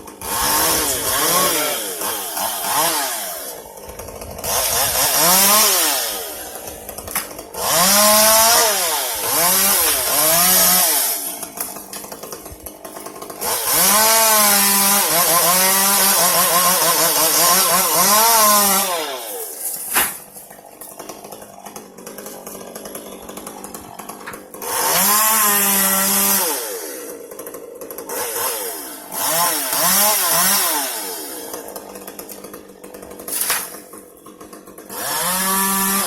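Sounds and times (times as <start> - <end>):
chainsaw cutting branches: 0.0 - 36.0.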